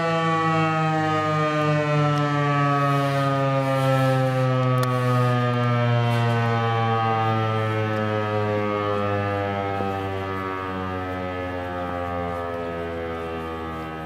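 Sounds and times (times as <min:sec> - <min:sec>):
warning siren: 0:00.0 - 0:14.0.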